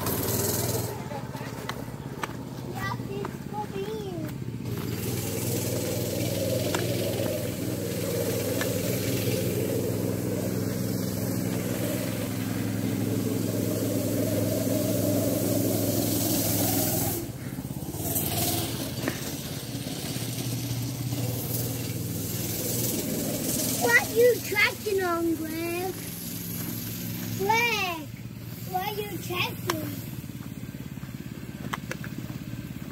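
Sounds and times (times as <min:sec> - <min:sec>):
go-kart engine running: 0:00.0 - 0:32.9.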